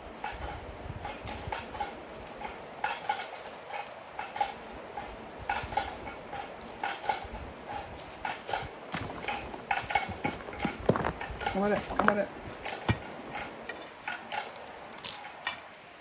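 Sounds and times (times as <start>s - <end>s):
knocking and clacking: 0.3s - 15.6s.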